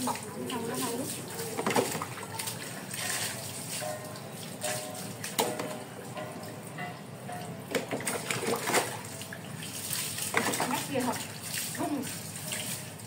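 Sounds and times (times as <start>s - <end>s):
water splashing on dog and floor: 0.0s - 6.7s, 7.7s - 13.0s.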